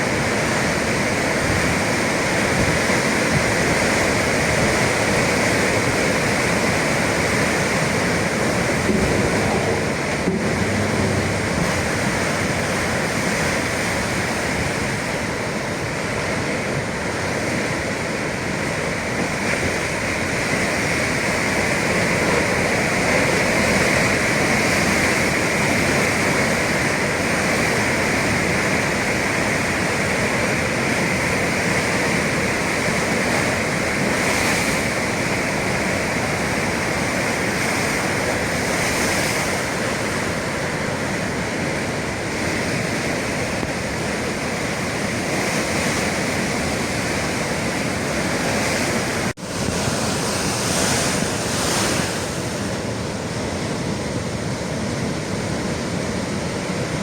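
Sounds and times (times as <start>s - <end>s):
surf breaking along shore: 0.0s - 57.0s.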